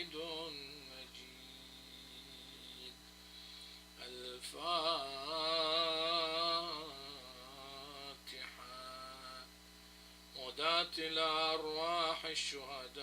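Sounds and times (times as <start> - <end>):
man chanting a prayer: 0.0 - 3.0, 4.0 - 9.5, 10.4 - 13.0
steady electrical hum: 0.0 - 13.0.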